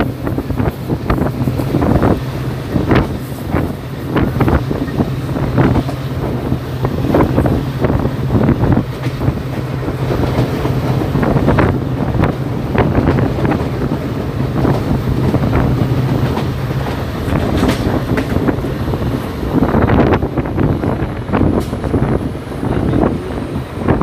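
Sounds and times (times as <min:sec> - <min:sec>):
train wheels clattering over rail joints: 0:00.0 - 0:24.0
wind buffeting microphone: 0:00.0 - 0:24.0.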